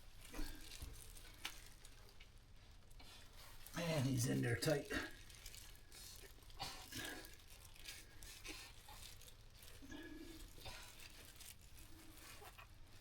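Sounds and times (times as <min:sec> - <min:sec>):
hands rustling and crinkling: 0:00.0 - 0:13.0.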